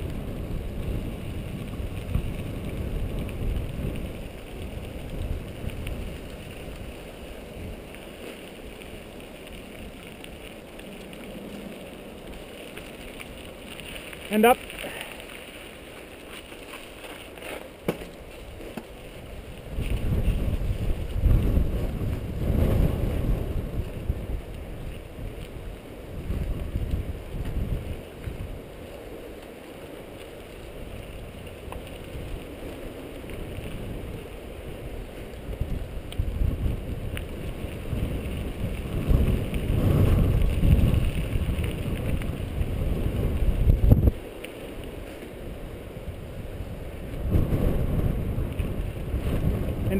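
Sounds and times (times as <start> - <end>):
bike trail noise: 0.0 - 49.9
wind buffeting microphone: 0.0 - 49.9.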